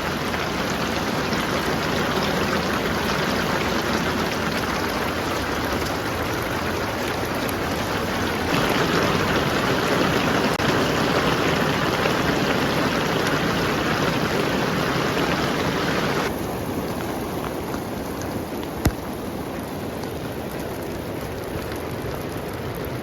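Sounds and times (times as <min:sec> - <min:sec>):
rain and hail falling: 0:00.0 - 0:23.0.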